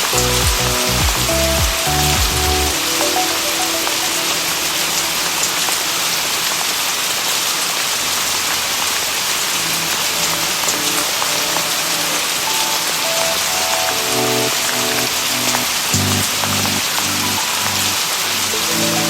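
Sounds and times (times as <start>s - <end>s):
soft slow music: 0.0s - 6.8s, 9.5s - 19.0s
heavy rain on surfaces: 0.0s - 19.0s.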